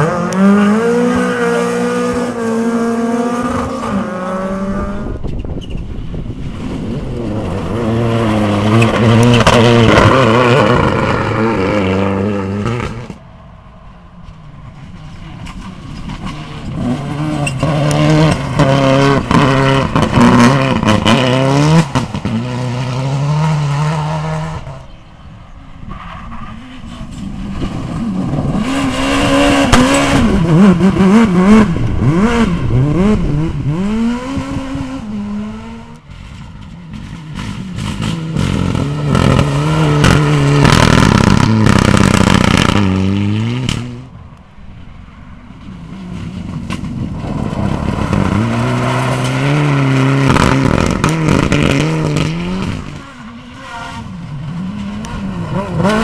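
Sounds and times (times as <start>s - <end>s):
rally cars passing at speed: 0.0s - 56.0s.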